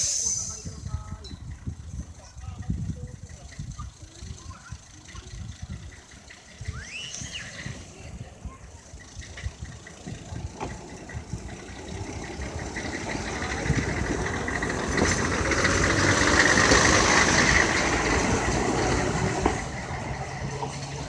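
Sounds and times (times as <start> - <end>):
diesel rail vehicle engine passing: 0.0 - 21.0.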